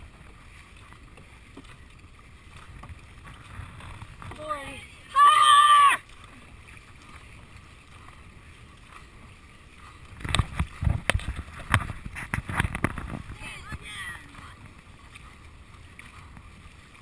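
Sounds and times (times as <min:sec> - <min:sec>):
low water wash: 0:00.0 - 0:17.0.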